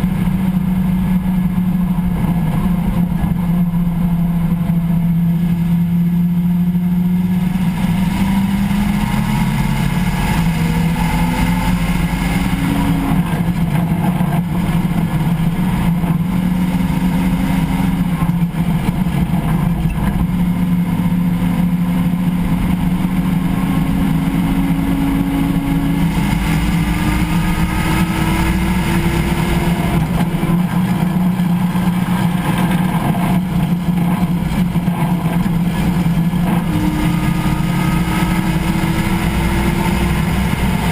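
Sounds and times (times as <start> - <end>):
vehicle driveline drone with whine: 0.0 - 40.9.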